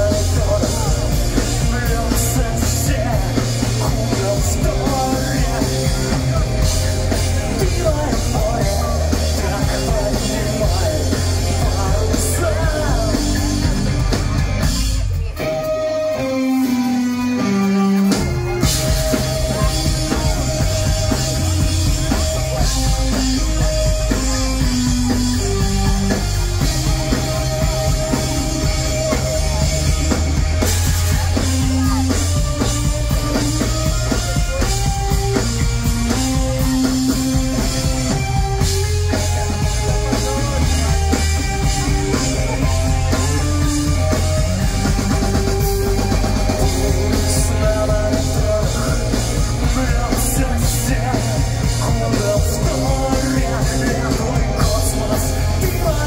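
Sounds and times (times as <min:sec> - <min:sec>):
bass guitar: 0:00.0 - 0:56.0
drum kit beat: 0:00.0 - 0:56.0
electric guitar: 0:00.0 - 0:56.0
melodic lead line: 0:00.0 - 0:56.0.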